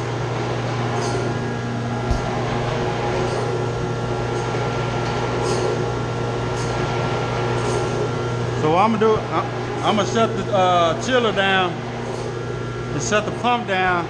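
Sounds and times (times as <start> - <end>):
pump motor humming: 0.0 - 14.0.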